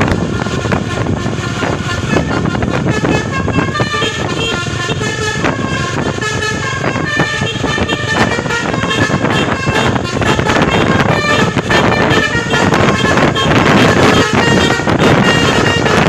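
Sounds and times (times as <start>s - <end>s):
bus running noise: 0.0s - 16.0s
multi-tone bus air horn melody: 0.0s - 16.0s.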